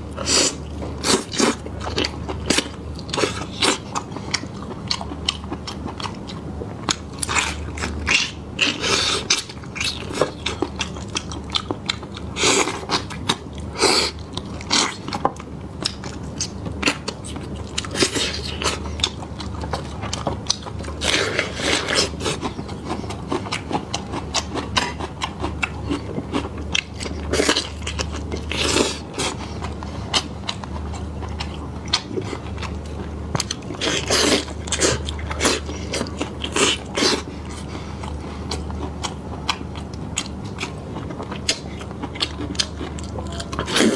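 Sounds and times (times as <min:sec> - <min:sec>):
low steady hum: 0:00.0 - 0:43.9
person chewing meat: 0:00.0 - 0:43.9.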